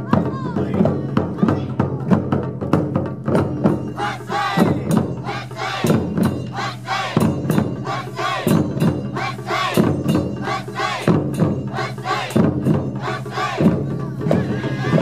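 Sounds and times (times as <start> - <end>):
drummers shouting calls: 0.0 - 2.4, 3.6 - 15.0
drum ensemble playing: 0.0 - 15.0.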